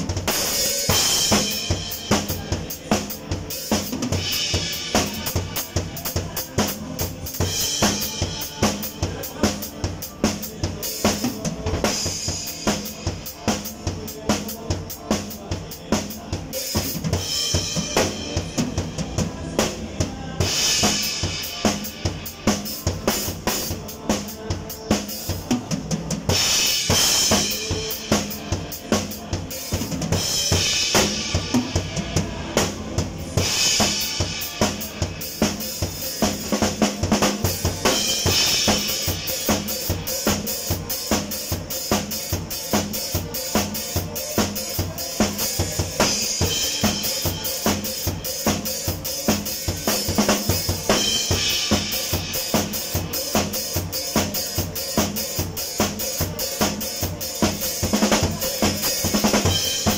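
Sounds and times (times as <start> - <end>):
drum kit groove: 0.0 - 59.9.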